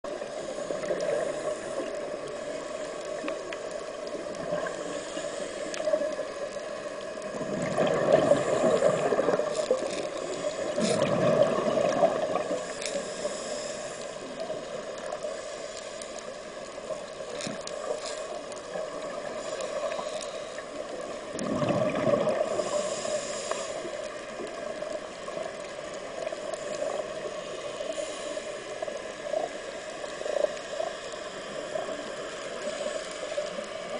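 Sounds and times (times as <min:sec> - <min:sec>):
underwater background noise: 0:00.0 - 0:33.9
underwater bubbles gurgling: 0:00.0 - 0:33.9.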